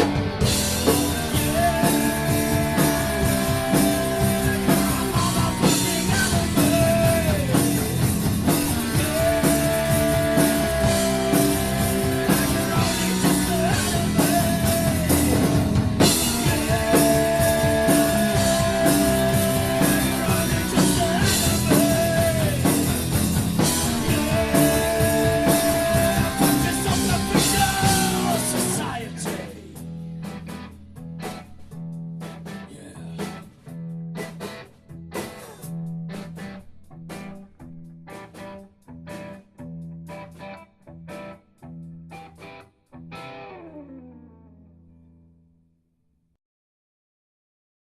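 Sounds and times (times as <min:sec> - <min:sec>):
rock band playing: 0:00.0 - 0:44.2
quiet guitar playing: 0:00.0 - 0:45.4.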